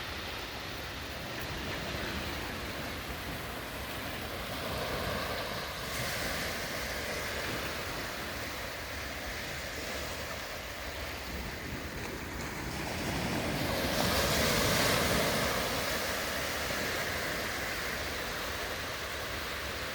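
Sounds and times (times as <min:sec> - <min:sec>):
sea waves breaking on shore: 0:00.0 - 0:19.9.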